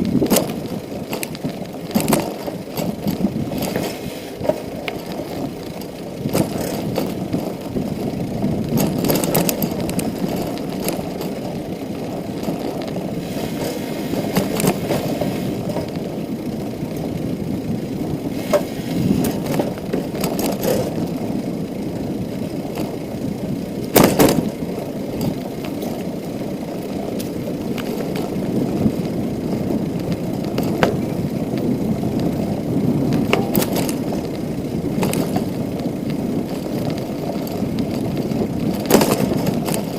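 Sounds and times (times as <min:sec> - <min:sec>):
bicycle tyre rumble: 0:00.0 - 0:39.9
bike rattles and clicks: 0:00.0 - 0:39.9.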